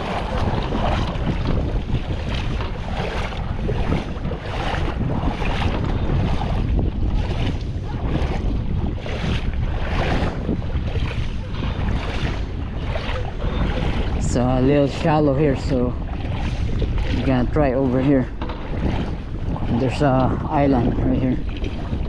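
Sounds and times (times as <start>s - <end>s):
feet splashing through water: 0.0s - 22.0s
wind rumbling on microphone: 0.0s - 22.0s.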